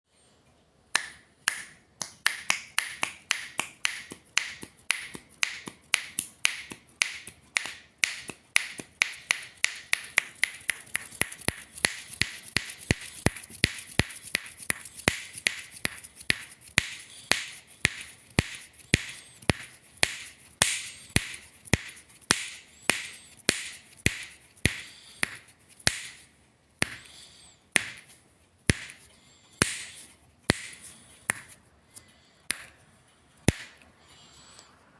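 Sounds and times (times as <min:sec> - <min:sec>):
fingers snapping: 0:00.9 - 0:29.0, 0:29.6 - 0:31.6, 0:32.5 - 0:32.8, 0:33.5 - 0:33.8.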